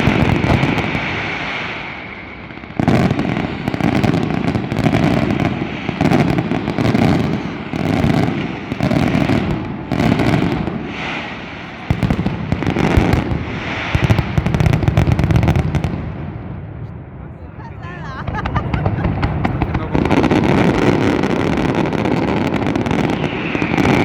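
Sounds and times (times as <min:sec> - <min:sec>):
fireworks bangs and crackling: 0:00.0 - 0:17.2, 0:17.9 - 0:24.0.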